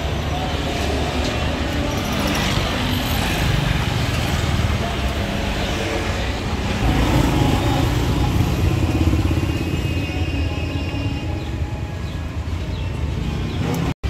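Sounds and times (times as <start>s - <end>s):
roadside traffic: 0.0s - 14.0s.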